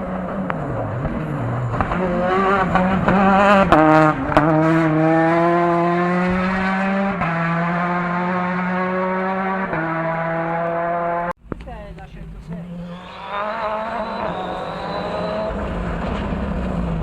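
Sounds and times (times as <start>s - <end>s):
rally car engine accelerating: 0.0s - 11.3s, 12.5s - 17.0s.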